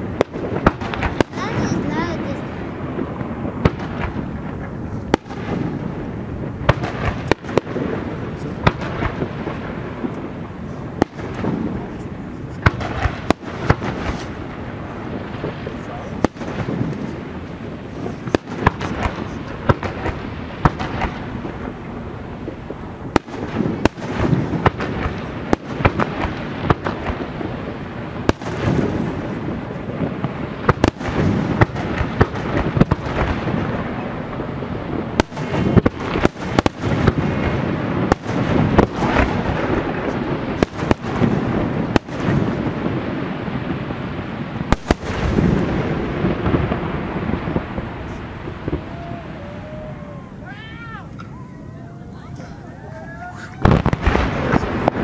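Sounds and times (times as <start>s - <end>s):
low rumble of booms: 0.0s - 50.5s, 53.2s - 55.0s
fireworks bursting: 0.0s - 55.0s.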